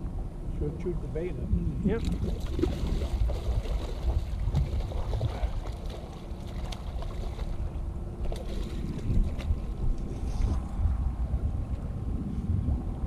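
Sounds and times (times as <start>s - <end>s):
boat motor running: 0.0s - 10.5s
wind rumbling on microphone: 0.0s - 13.0s.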